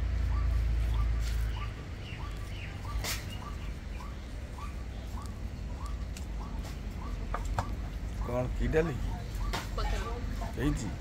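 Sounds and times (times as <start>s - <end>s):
bird chirping: 0.2s - 10.1s.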